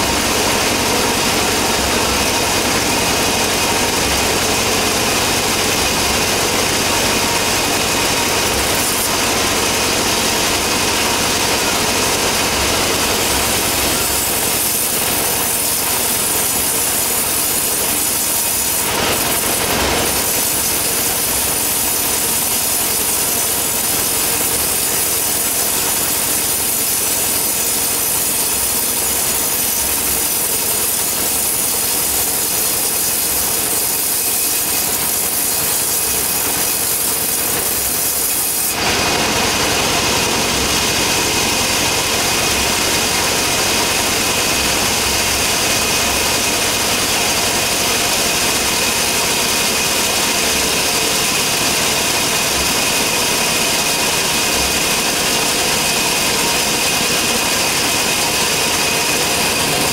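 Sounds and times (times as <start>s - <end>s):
machine drone: 0.0s - 59.9s
sawmill sawing whine: 0.0s - 59.9s.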